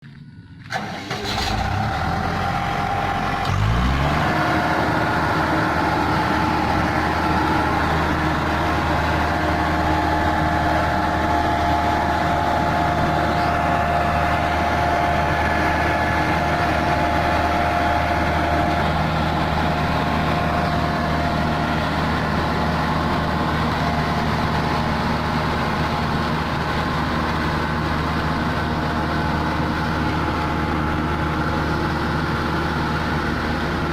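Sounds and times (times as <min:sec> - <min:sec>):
heavy vehicle engine running: 0:00.0 - 0:33.9.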